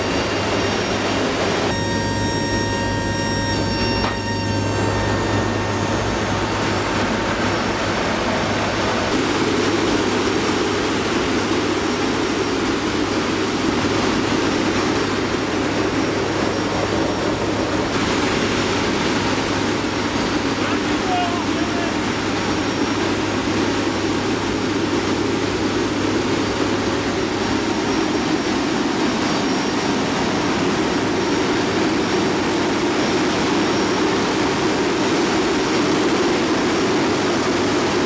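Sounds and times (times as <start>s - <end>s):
aircraft engine rumble and airflow: 0.0s - 38.0s
high steady whine: 0.0s - 38.0s
low hum: 0.0s - 38.0s.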